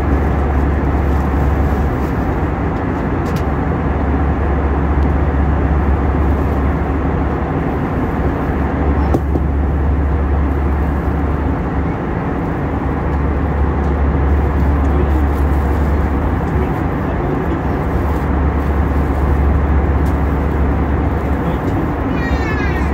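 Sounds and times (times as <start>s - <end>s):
airliner cabin engine rumble: 0.0s - 22.9s.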